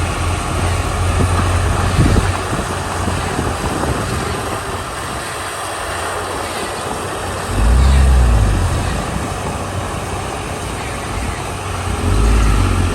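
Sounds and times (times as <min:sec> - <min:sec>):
bulldozer diesel engine rumbling: 0:00.0 - 0:12.9.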